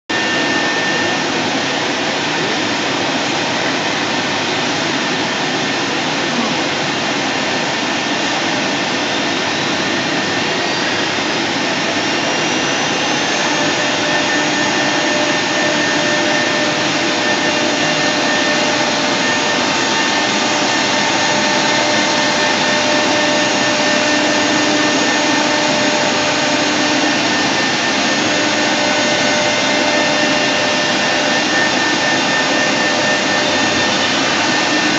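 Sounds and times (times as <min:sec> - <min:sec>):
cnc router whirring: 0:00.1 - 0:34.9.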